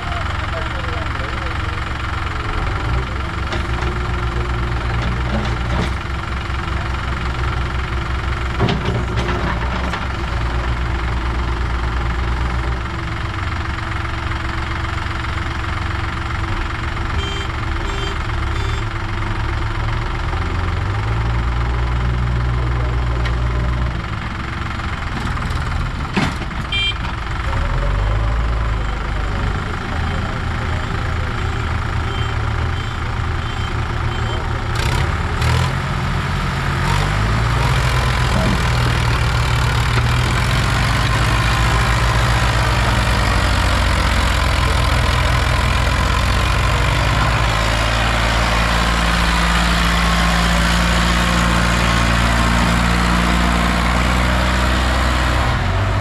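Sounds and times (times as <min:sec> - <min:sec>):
backhoe diesel engine working: 0:00.0 - 0:56.0
idling engines: 0:00.0 - 0:56.0.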